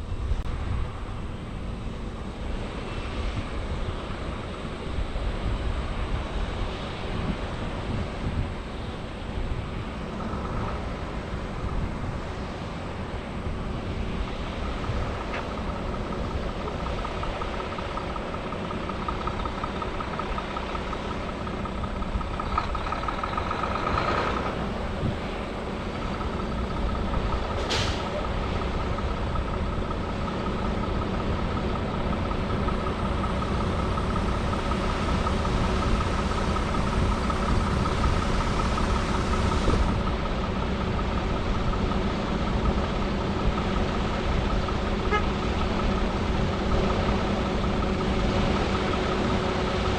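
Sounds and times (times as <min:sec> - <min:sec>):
diesel machinery droning: 0:00.0 - 0:49.9.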